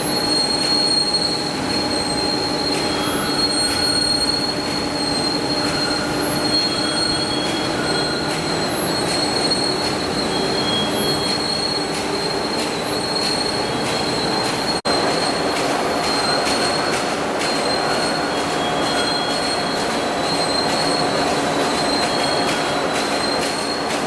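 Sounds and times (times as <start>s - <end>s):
metal slitting machine running: 0.0s - 24.0s
high squealing tones: 0.1s - 24.0s.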